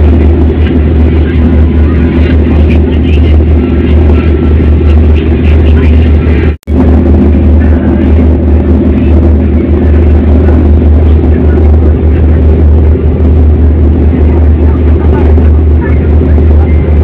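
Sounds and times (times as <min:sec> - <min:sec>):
ferry engines droning: 0:00.0 - 0:17.0
rush of moving ship: 0:00.0 - 0:17.0.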